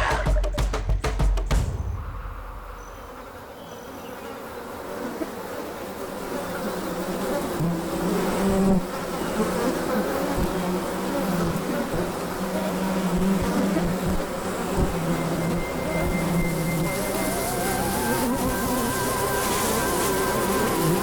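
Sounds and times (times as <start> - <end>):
flies buzzing: 2.7 - 21.0.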